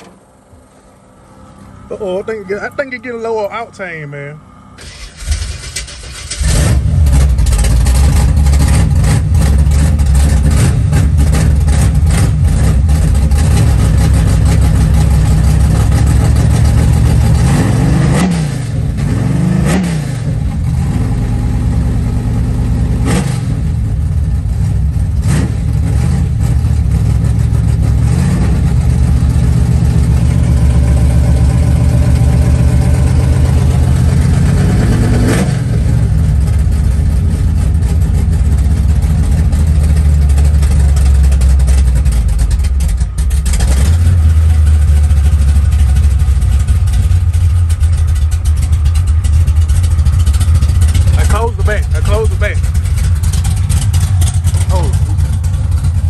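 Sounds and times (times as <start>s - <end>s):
loud car engine idling and revving: 0.0s - 56.0s.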